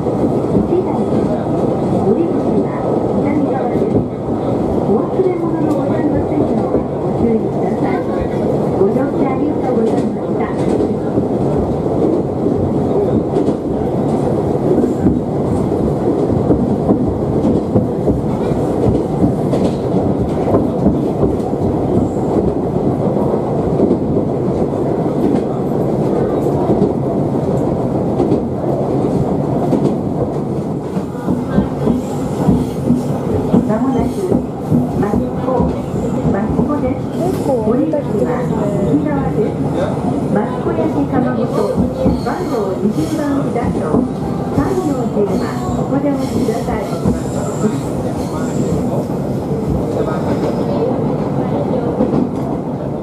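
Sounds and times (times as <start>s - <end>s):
train rumble inside carriage: 0.0s - 53.0s.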